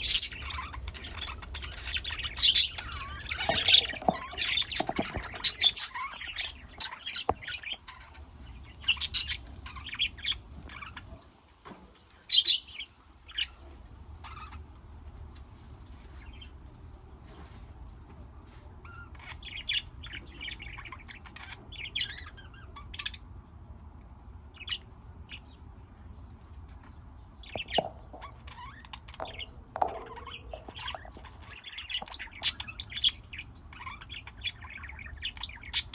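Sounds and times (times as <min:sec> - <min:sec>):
parrots chirping and squawking: 0:00.0 - 0:11.4, 0:12.1 - 0:17.6, 0:18.7 - 0:23.6, 0:24.4 - 0:25.6, 0:26.2 - 0:35.9.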